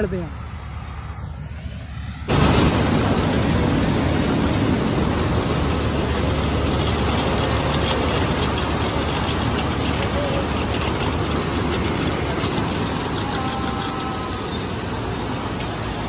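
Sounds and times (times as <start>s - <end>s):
combine harvester machinery hum: 0.0s - 16.0s.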